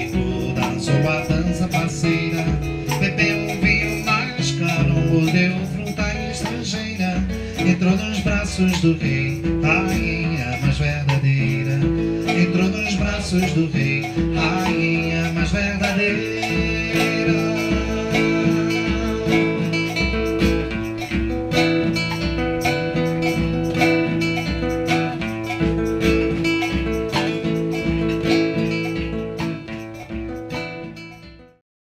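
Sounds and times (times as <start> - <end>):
drums and cymbal beat: 0.0 - 31.5
strummed acoustic guitar: 0.0 - 31.6.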